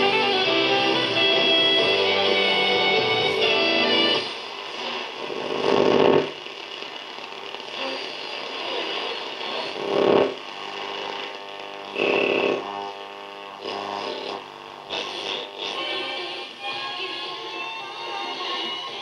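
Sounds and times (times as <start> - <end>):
radio static and hiss: 0.0 - 19.0
radio stations tuning in: 0.0 - 19.0.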